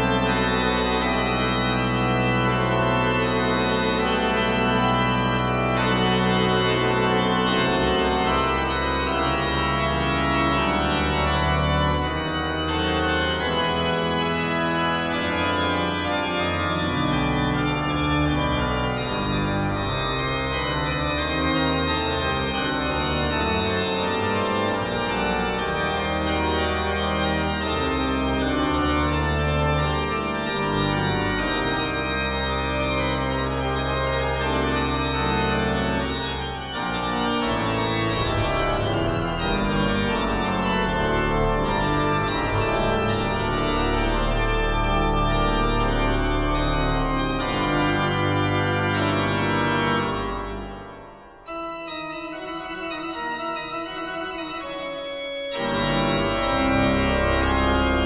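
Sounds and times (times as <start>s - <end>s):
sustained organ-like chords: 0.0s - 58.0s.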